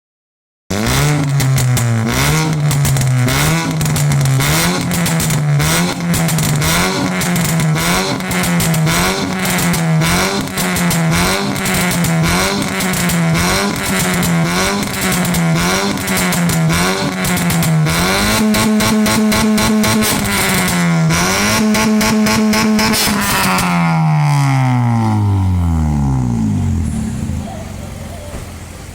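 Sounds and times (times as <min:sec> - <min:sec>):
loud car engine revving: 0:00.7 - 0:28.9.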